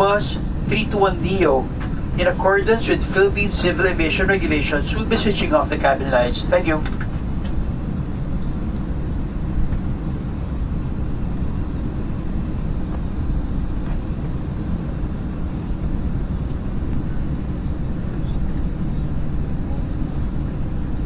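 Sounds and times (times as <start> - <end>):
aircraft cabin low rumble: 0.0 - 21.0.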